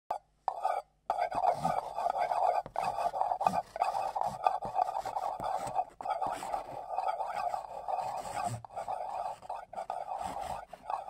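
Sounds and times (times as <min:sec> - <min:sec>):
pastel stick scraping a board: 0:00.5 - 0:11.0.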